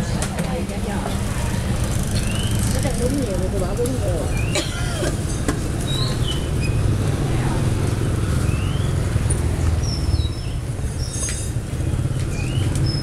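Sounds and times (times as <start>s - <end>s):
motorbike traffic rumble: 0.0s - 13.0s.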